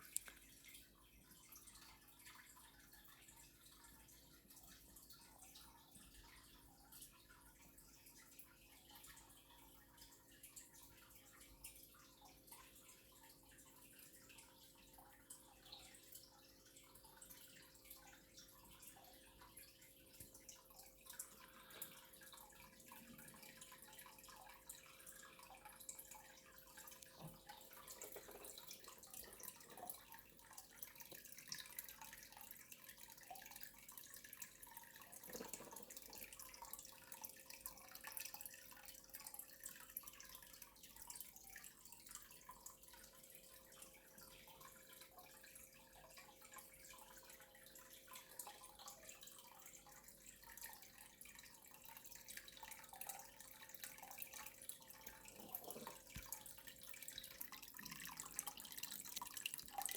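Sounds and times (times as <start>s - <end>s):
faint steady hum: 0.0s - 59.9s
running and dripping water: 0.0s - 59.9s.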